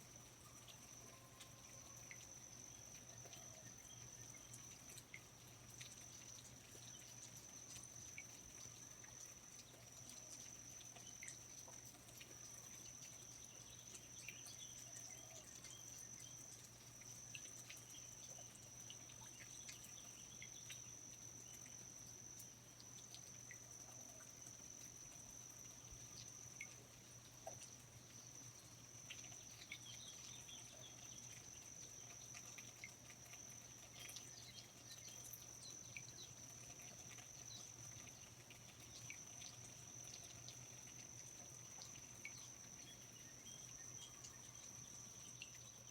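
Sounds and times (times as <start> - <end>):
faint low hum: 0.0 - 45.9
insect high-pitched trill: 0.0 - 45.9
small drips and ticks: 0.0 - 45.9.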